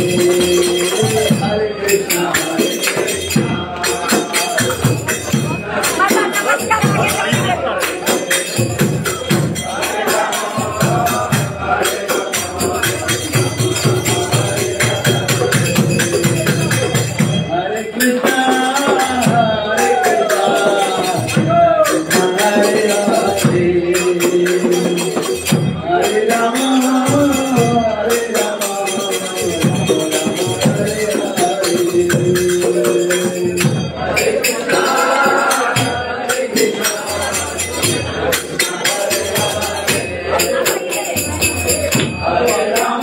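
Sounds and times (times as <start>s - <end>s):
jingling percussion: 0.0s - 43.0s
voices singing a chant: 0.0s - 43.0s.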